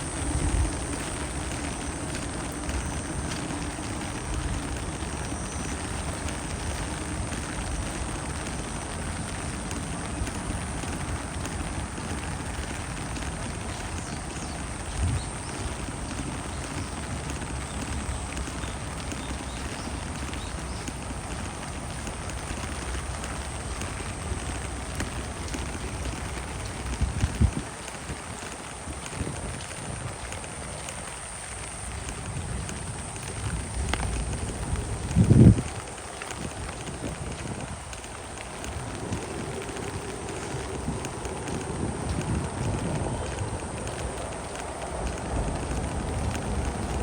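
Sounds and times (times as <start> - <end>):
steady rain hiss: 0.0 - 47.0.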